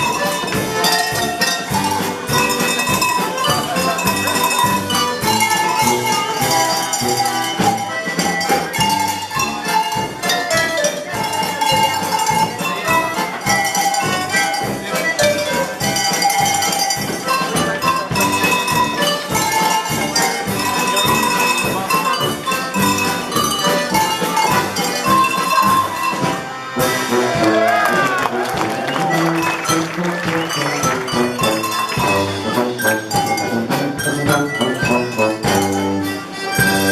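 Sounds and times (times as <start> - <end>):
tuned cowbells playing a tune: 0.0 - 27.8, 28.4 - 36.9.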